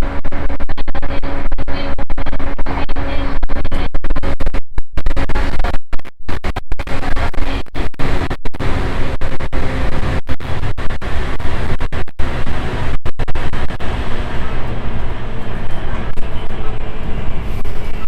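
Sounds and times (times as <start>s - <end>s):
train wheel and rail rumble: 0.0s - 4.5s, 5.1s - 18.0s.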